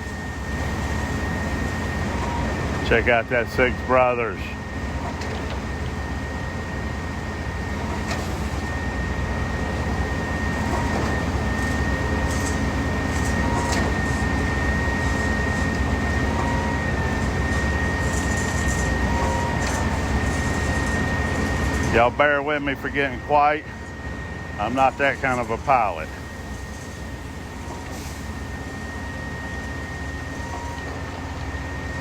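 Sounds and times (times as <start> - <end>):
heavy diesel machinery drone: 0.0 - 32.0
thin high whine: 0.0 - 32.0.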